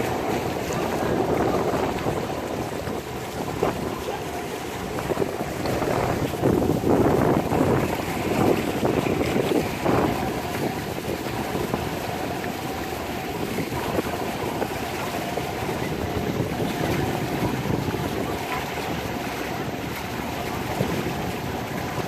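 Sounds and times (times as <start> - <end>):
water rushing past hull: 0.0 - 22.0
wind buffeting microphone: 0.0 - 22.0.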